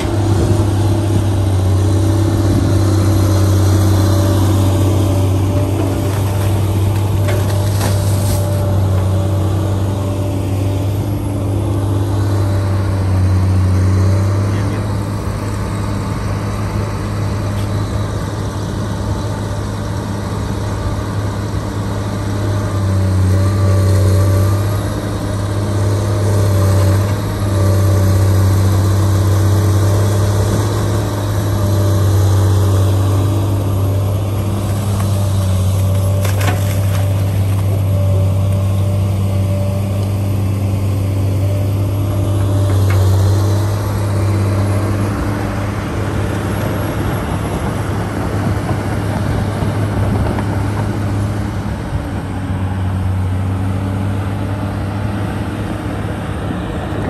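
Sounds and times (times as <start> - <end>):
engine running with low hum: 0.0 - 57.0.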